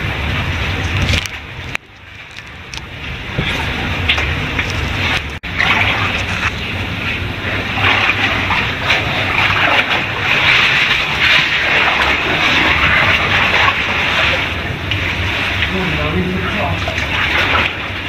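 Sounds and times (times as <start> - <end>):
people wading through water: 0.0 - 18.0
stream water rushing: 0.0 - 18.0.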